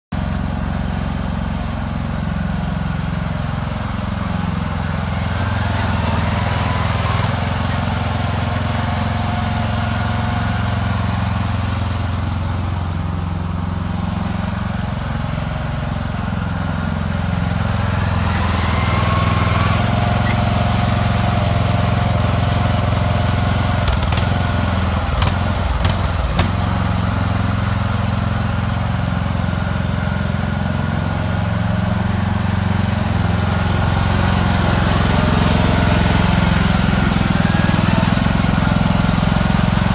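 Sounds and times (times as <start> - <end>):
lawn mower engine running: 0.1 - 39.9.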